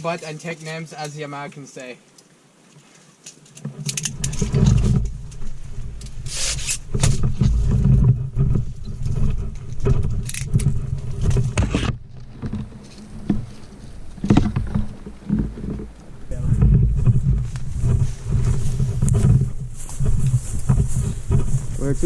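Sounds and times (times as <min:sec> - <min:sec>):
scraping rustles: 0:02.8 - 0:22.0
camera handling rumble: 0:03.3 - 0:21.9.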